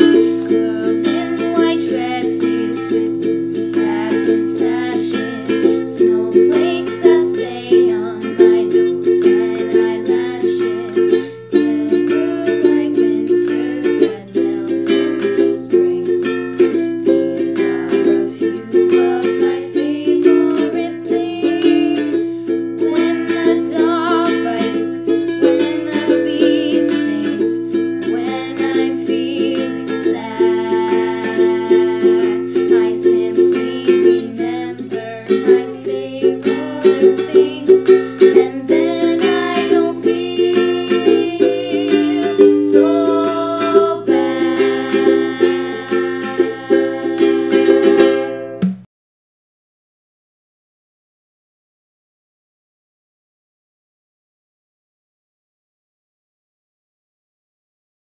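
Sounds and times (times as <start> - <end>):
ukulele strumming: 0.0 - 48.9.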